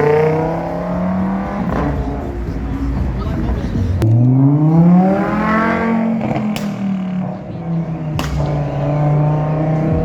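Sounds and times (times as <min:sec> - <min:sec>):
car engine at high revs: 0:00.0 - 0:03.2, 0:04.0 - 0:10.0.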